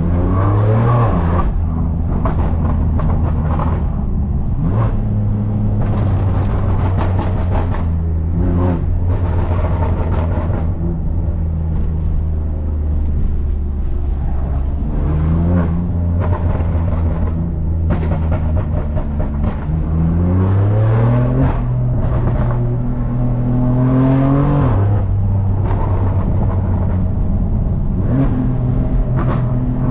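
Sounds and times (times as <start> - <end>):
car engine and exhaust: 0.0 - 29.9.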